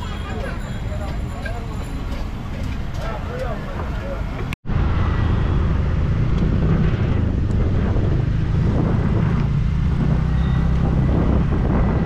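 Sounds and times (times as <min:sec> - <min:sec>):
scooter engine and road rumble: 0:00.0 - 0:12.0
wind buffeting microphone: 0:02.0 - 0:12.0.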